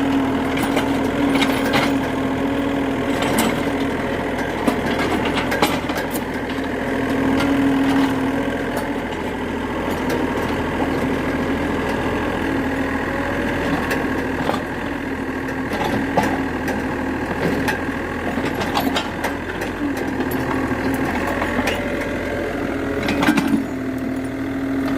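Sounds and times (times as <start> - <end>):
excavator engine running: 0.0 - 24.9.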